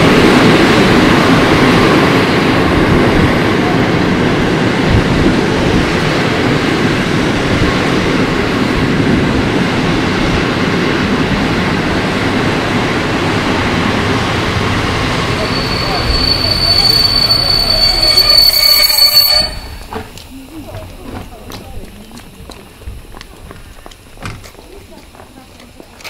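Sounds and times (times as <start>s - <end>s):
train rolling rumble: 0.0s - 26.0s.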